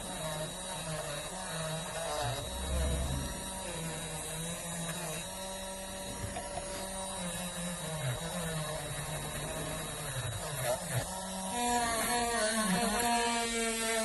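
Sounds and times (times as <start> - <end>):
polishing wheel motor whining: 0.0 - 14.0.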